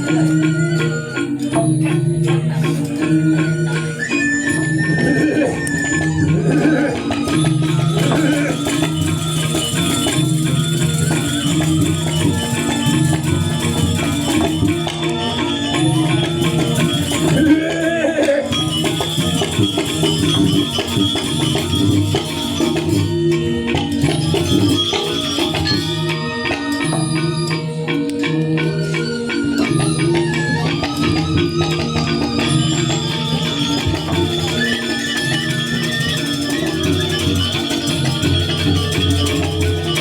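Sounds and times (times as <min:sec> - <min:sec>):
jangling cymbal strokes: 0:00.0 - 0:30.1, 0:30.8 - 0:40.0
pitched metal notes: 0:00.0 - 0:40.0.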